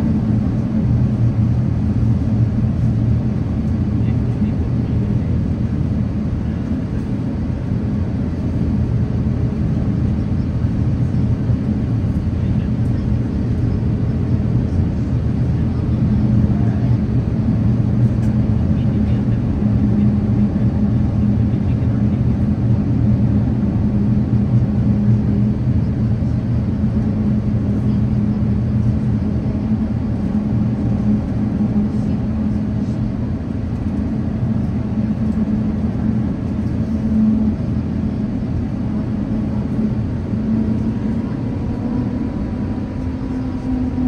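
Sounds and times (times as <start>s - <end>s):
aircraft cabin engine drone: 0.0s - 44.0s.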